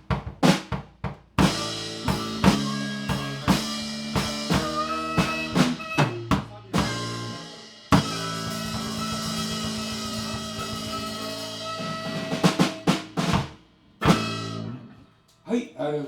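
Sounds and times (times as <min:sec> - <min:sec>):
sharp drum hits: 0:01.4 - 0:14.7
live blues band: 0:01.4 - 0:14.9.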